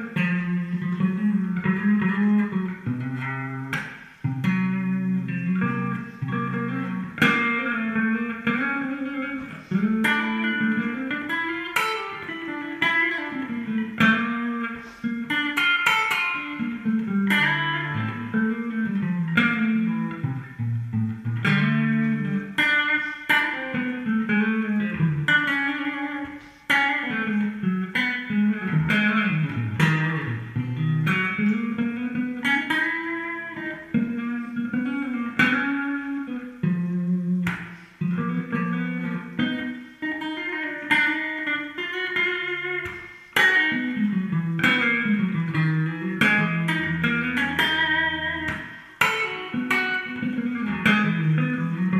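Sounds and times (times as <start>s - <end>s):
electric guitar melody: 0.0s - 51.9s.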